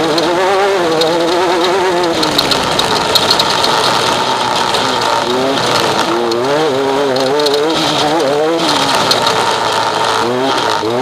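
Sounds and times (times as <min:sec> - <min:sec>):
race vehicle engine revving: 0:00.0 - 0:11.0
rattling: 0:00.0 - 0:11.0.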